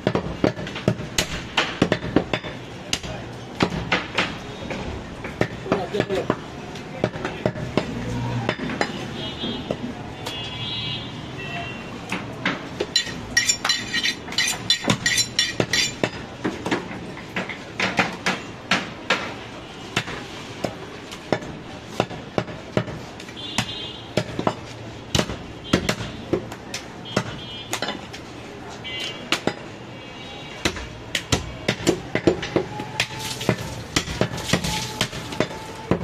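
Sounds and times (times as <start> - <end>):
cleaver chopping meat on wood: 0.0 - 8.9, 12.1 - 19.4, 20.0 - 23.0, 23.6 - 28.0, 29.3 - 29.6, 30.6 - 36.0.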